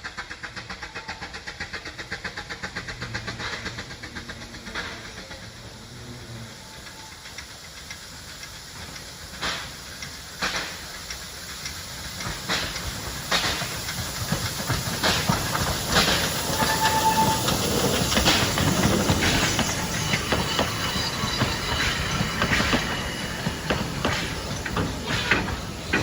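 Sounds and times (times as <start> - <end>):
steady steam hiss: 0.0 - 26.0
steam locomotive exhaust chuffing: 0.0 - 26.0.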